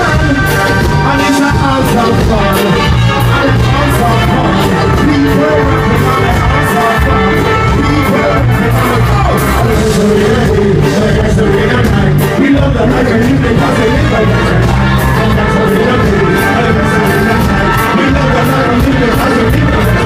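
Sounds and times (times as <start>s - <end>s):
heavy bass line: 0.0s - 20.0s
live band music: 0.0s - 20.0s
vocals: 0.0s - 20.0s.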